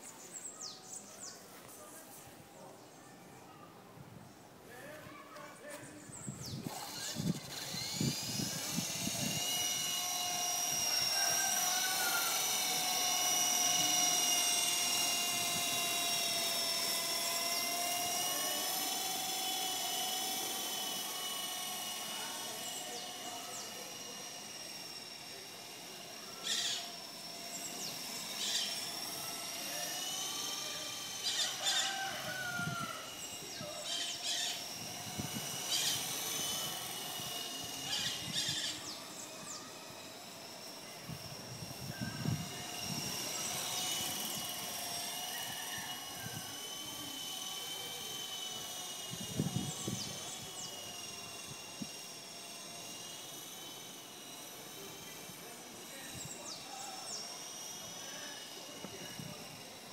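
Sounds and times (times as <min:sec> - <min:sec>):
rc helicopter rotors whining: 0:00.0 - 0:59.9.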